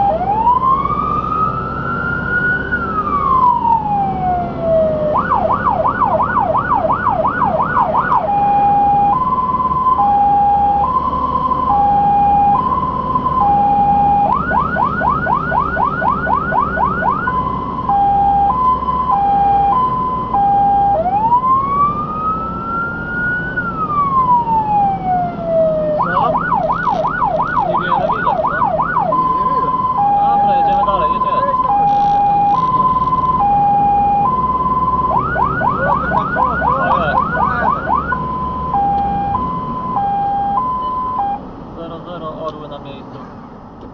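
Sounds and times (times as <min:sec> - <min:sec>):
fire engine siren: 0:00.0 - 0:41.4
truck engine and road noise: 0:00.0 - 0:43.9.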